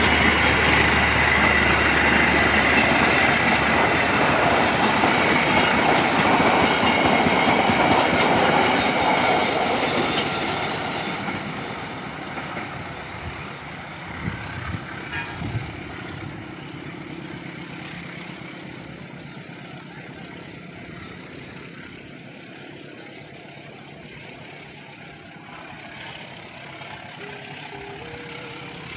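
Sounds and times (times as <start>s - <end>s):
train wheels on rails: 0.0s - 28.9s.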